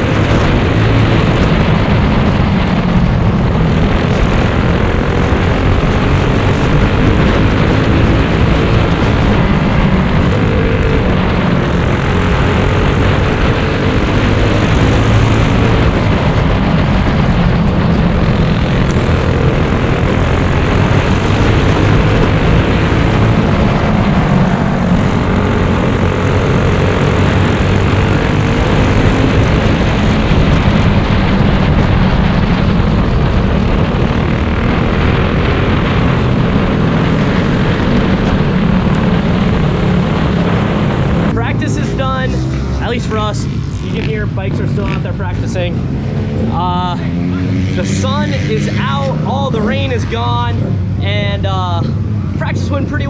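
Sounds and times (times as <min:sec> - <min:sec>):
small racing engines: 0:00.0 - 0:53.0.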